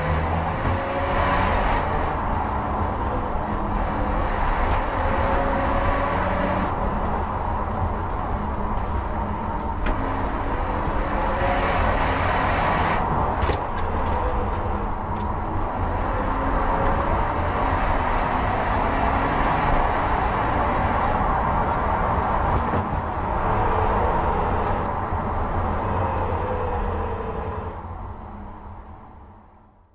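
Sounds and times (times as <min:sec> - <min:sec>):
car engine revving inside cabin: 0:00.0 - 0:28.4
tyre and road noise: 0:00.0 - 0:29.9.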